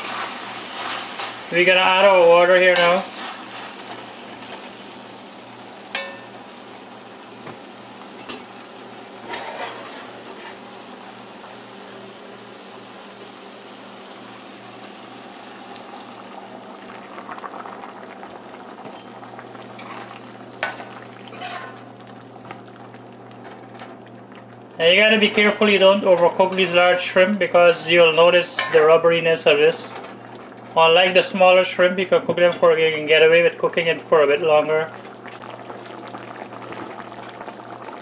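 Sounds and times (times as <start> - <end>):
shrimp sizzling in a pot: 0.0 - 31.5, 32.4 - 38.0
pot bubbling: 0.0 - 38.0.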